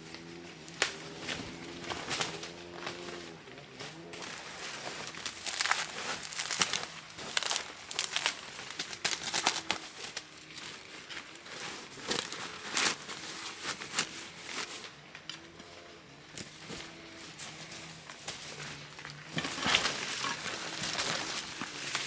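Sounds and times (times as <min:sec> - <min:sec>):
crinkling and rustling: 0:00.0 - 0:22.0.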